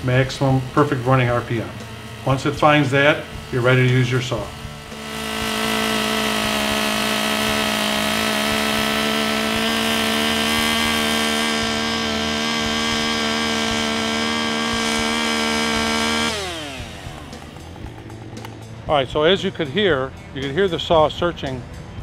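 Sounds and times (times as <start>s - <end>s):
chainsaw engine at full throttle: 0.0s - 20.6s.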